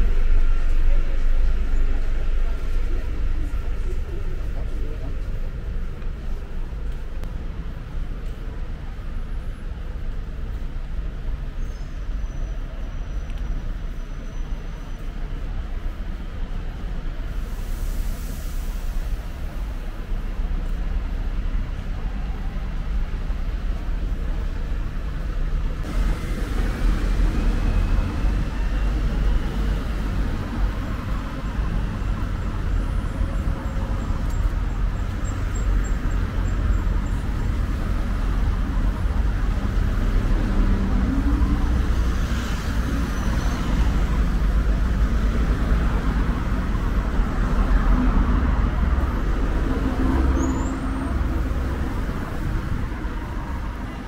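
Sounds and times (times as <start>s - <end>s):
cars and vans driving past: 0.0s - 54.0s
low rumble of engines and tyres: 0.0s - 54.0s.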